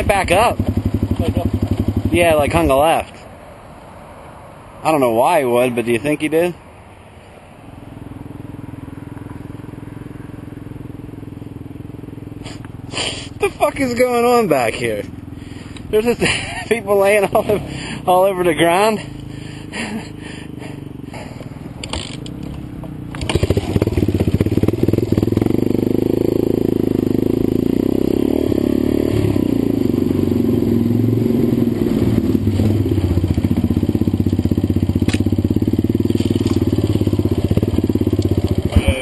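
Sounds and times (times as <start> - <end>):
motorcycle engine running: 0.0 - 2.9, 7.8 - 39.0.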